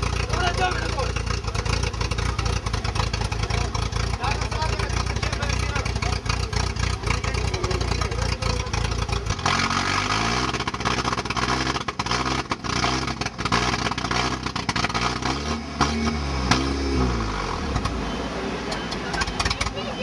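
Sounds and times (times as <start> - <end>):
buggy engine revving: 0.0 - 20.0.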